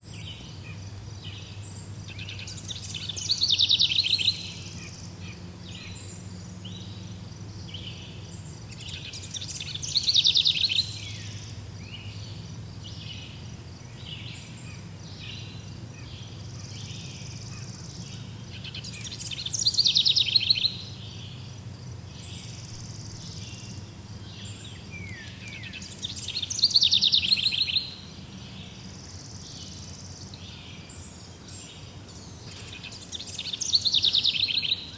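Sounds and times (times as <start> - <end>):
bird chirps: 0.0 - 34.9
faint low hum: 0.0 - 34.9
songbird trilling: 0.0 - 34.9.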